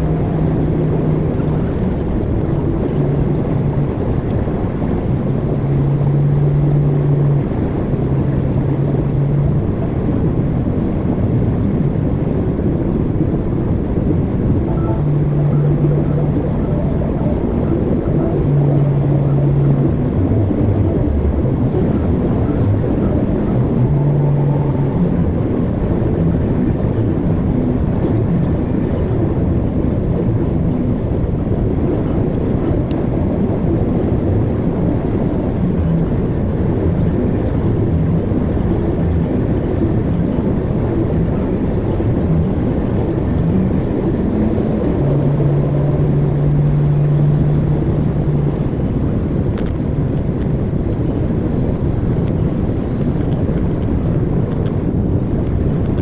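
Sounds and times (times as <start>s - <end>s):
highway road noise: 0.0s - 56.0s
low droning hum: 0.0s - 56.0s.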